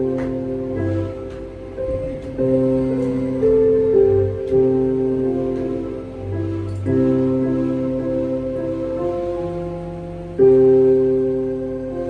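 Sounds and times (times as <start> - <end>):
electronic keyboard chords: 0.0 - 12.0.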